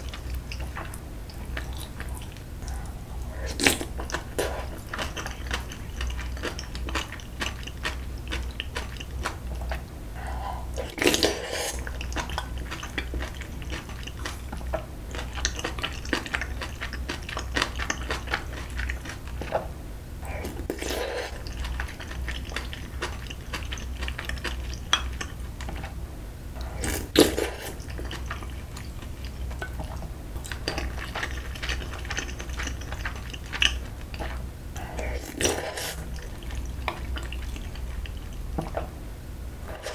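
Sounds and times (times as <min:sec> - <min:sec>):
chewing rice: 0:00.0 - 0:26.0, 0:26.6 - 0:38.9.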